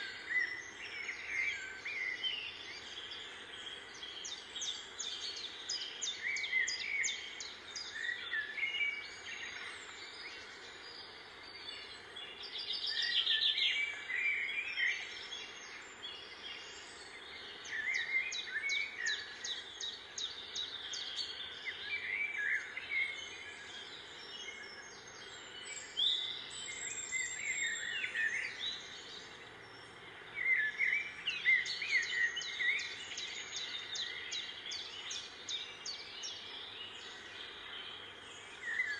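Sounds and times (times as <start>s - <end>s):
outdoor background noise: 0.0s - 38.9s
small birds chirping: 0.0s - 38.9s.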